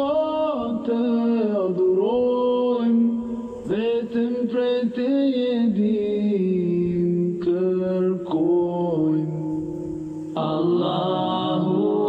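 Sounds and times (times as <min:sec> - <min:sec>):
brighter voice singing: 0:00.0 - 0:12.0
person singing long sliding notes: 0:00.0 - 0:12.0.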